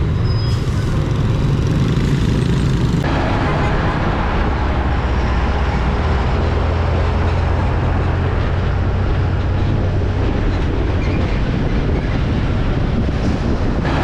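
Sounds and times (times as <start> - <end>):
truck diesel engine drone: 0.0 - 14.0
tyre and road noise: 0.0 - 14.0.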